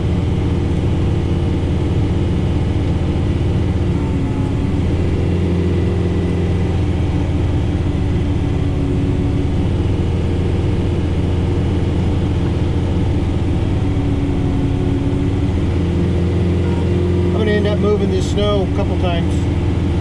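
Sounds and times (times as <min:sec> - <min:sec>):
tractor diesel engine humming: 0:00.0 - 0:20.0.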